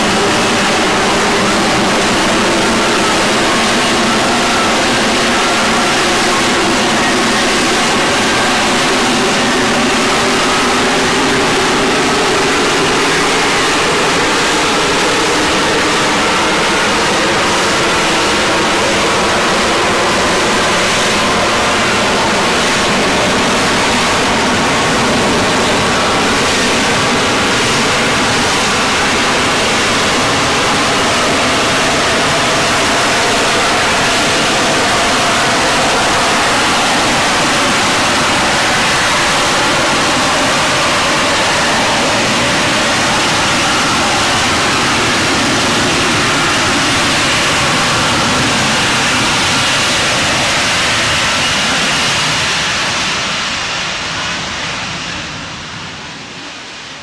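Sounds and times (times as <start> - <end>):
jet engine hovering: 0.0 - 57.0.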